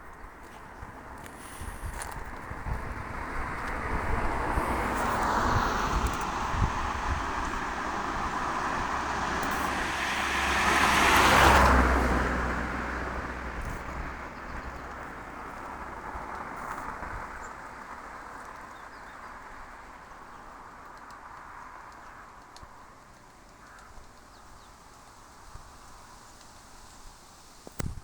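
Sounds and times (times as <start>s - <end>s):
road vehicle passing by: 0.1s - 23.4s.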